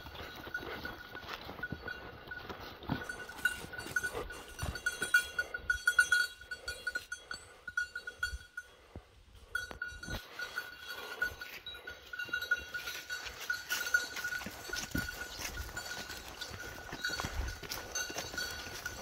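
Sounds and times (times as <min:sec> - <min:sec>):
collar bell jingling: 0:00.0 - 0:19.0.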